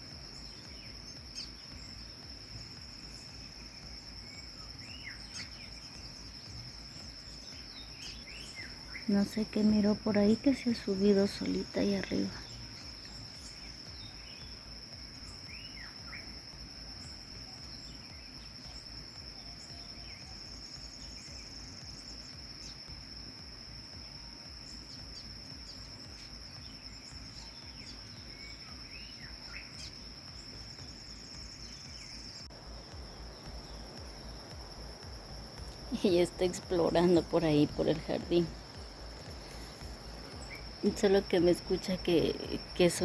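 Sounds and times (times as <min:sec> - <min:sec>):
bird chirps: 0:00.0 - 0:23.2, 0:24.1 - 0:43.0
insects buzzing: 0:00.0 - 0:43.0.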